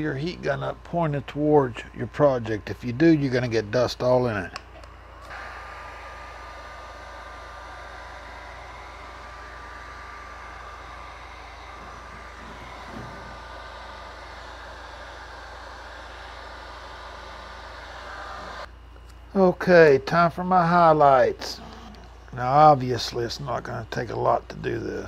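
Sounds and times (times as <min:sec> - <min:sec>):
heat gun fan blowing air: 0:00.0 - 0:25.0
high steady whine: 0:00.0 - 0:25.0.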